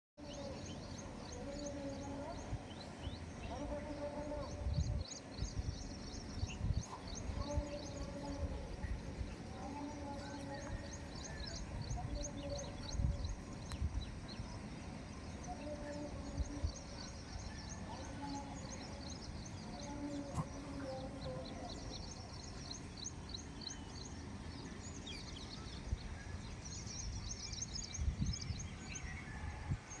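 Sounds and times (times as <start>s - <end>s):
small birds chirping: 0.2s - 29.5s.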